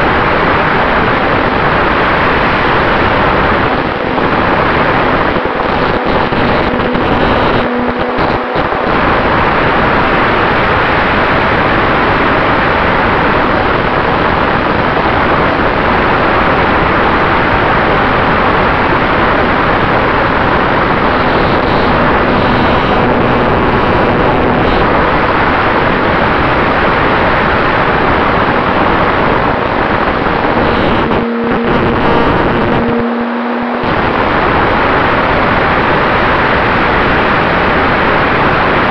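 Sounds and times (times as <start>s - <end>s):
faint hum: 0.0s - 38.9s
rush of air and motor noise: 0.0s - 38.9s.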